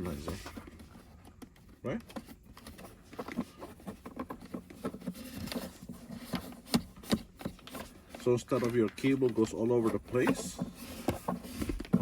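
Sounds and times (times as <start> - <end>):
hands handling plastic parts: 0.0 - 12.0.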